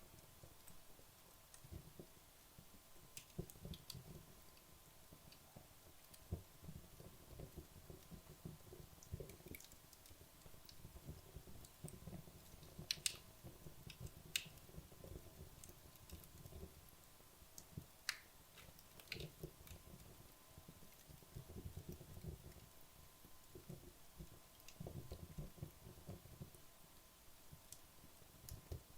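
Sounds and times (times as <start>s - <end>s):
logs crackling in fireplace: 0.0s - 28.9s
soft flutter of flames: 0.0s - 28.9s.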